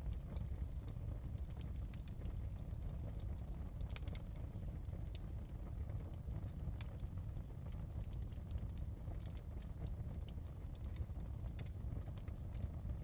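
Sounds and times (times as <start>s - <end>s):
low rumble of burning fire: 0.0s - 13.0s
wood fire crackling: 0.0s - 13.0s.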